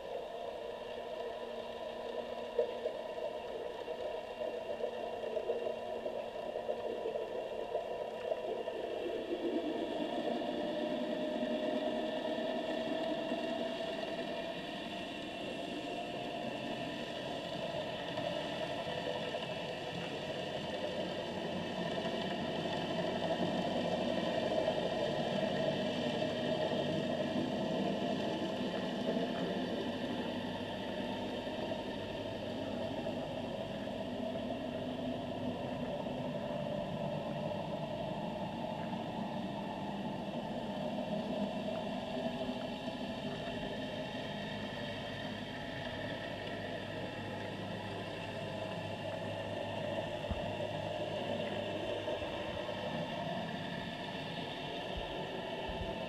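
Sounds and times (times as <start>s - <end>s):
boat engine drone underwater: 0.0s - 56.0s.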